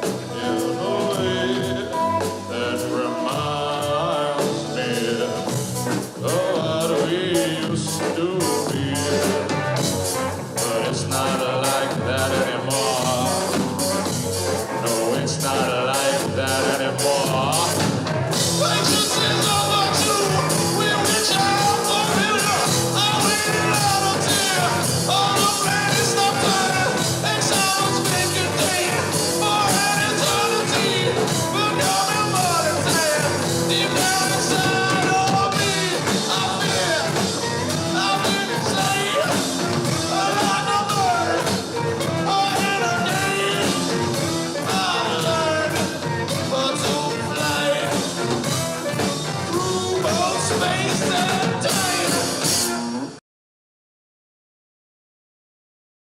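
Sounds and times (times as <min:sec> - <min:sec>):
rock band playing instrumental: 0:00.0 - 0:53.2.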